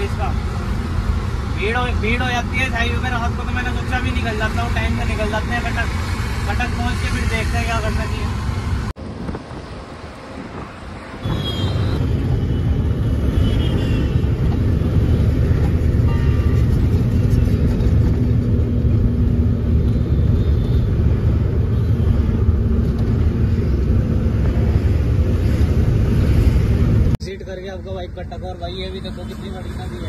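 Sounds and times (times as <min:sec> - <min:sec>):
diesel engine rumble: 0:00.0 - 0:30.0
road noise: 0:00.0 - 0:30.0.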